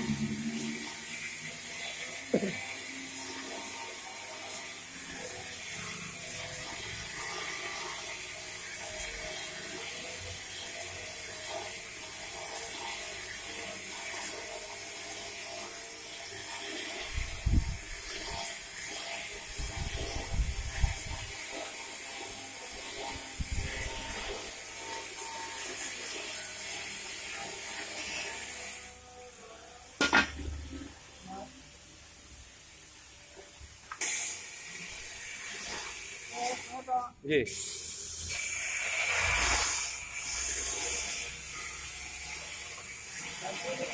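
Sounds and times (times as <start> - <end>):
machine motor and chain whirring: 0.0 - 29.0, 37.6 - 43.9.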